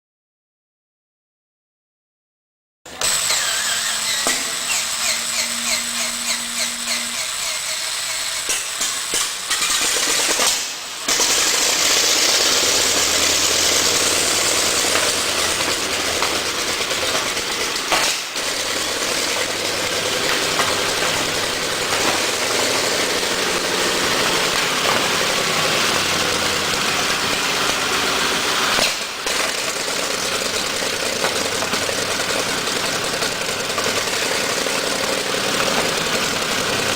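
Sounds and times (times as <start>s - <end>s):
radial engine ticking and droning: 3.1s - 36.9s.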